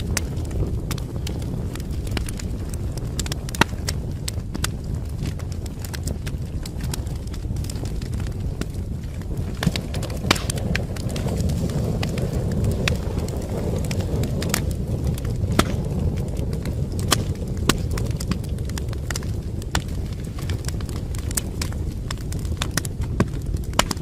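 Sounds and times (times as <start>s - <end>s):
low rush of flame: 0.0s - 24.0s
wood fire crackling: 0.0s - 24.0s.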